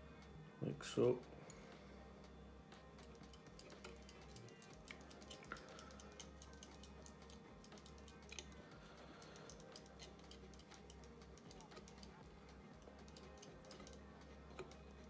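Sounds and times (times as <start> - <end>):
faint small clicks and ticks: 1.1 - 15.0.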